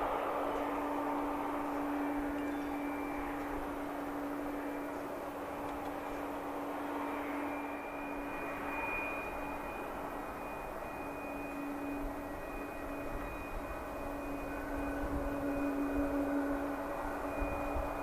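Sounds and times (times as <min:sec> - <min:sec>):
airliner engines running: 0:00.0 - 0:18.0.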